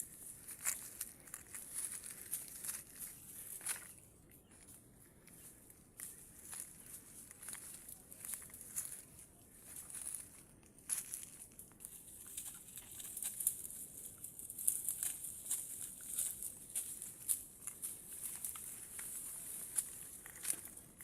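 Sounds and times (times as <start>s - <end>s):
footsteps through dry leaves: 0.0s - 4.7s, 5.3s - 21.0s.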